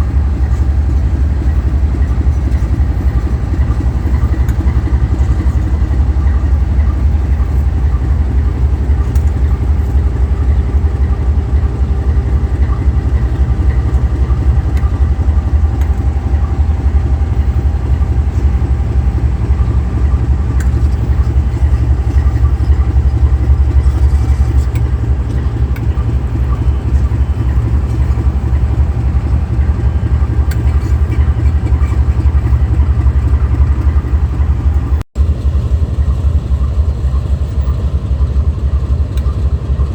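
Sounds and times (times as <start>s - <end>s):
locomotive engine rumbling: 0.0s - 39.9s.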